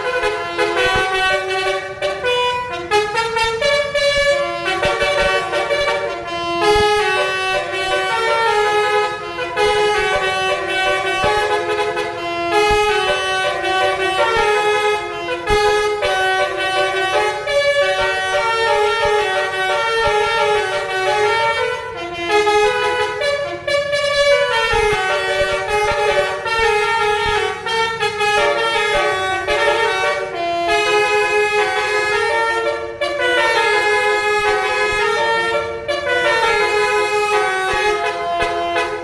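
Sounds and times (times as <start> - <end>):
melodic bus air horn tune: 0.0 - 39.0.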